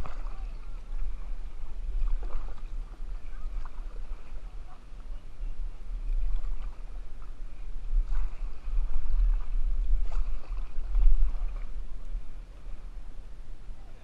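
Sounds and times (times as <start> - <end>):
paddle splashes in water: 0.0 - 13.0
wind buffeting microphone: 0.0 - 14.0.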